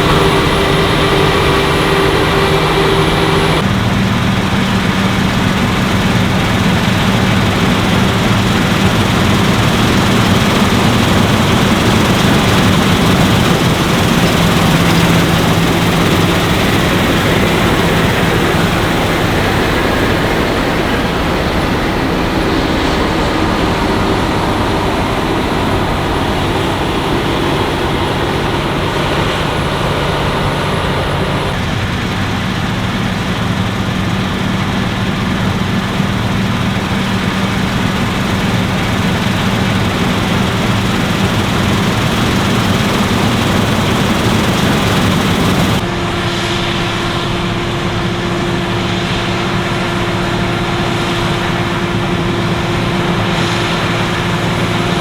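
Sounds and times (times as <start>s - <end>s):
combine harvester engine drone: 0.0s - 55.0s
dense machine noise: 0.0s - 55.0s.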